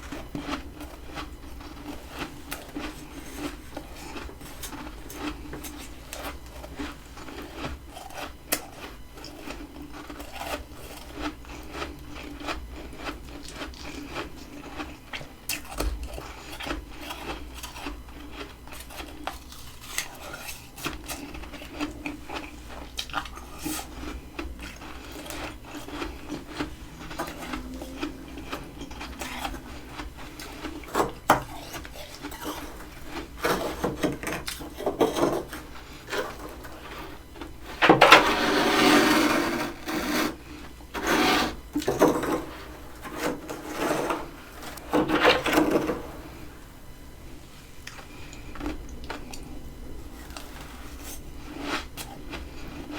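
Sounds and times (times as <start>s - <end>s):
utensil scraping freezer frost: 0.0s - 46.6s, 50.0s - 52.9s.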